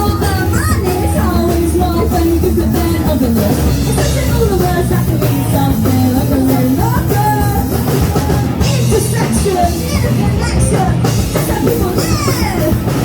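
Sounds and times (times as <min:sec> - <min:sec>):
person singing: 0:00.0 - 0:13.0
punk rock band playing live: 0:00.0 - 0:13.0.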